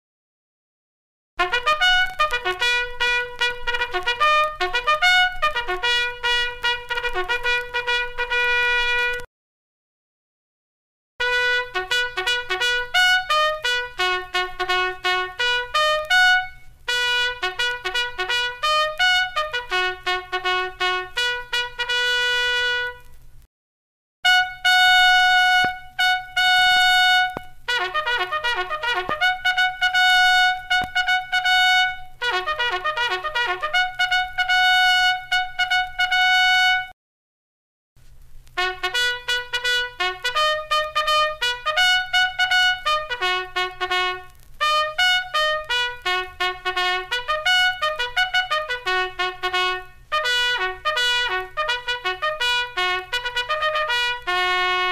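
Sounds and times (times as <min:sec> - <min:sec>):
bugle call: 0:01.4 - 0:09.3, 0:11.2 - 0:23.1, 0:24.3 - 0:36.9, 0:38.6 - 0:54.9.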